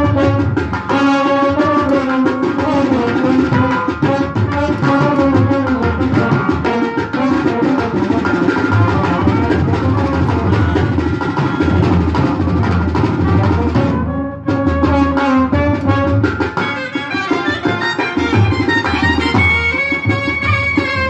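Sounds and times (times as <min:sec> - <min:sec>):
brass band playing: 0:00.0 - 0:21.0
drums: 0:00.0 - 0:21.0.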